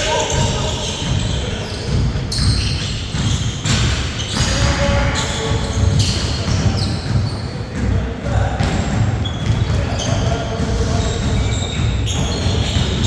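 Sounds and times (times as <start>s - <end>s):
basketball bouncing on court: 0.0s - 13.0s.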